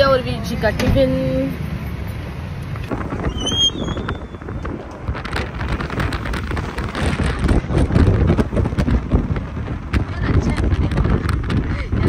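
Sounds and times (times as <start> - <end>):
car road noise: 0.0 - 12.0
wind buffeting microphone: 2.3 - 12.0.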